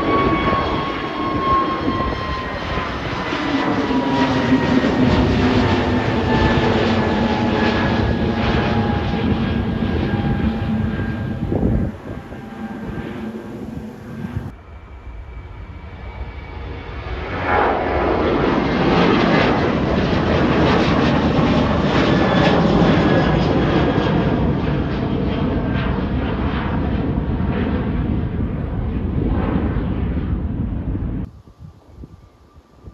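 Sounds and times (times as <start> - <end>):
jet engines roaring at takeoff: 0.0 - 32.9.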